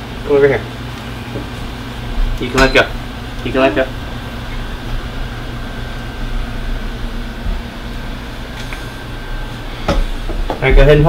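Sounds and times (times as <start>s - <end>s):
faint high whine: 0.0s - 11.0s
low mechanical hum: 0.0s - 11.0s.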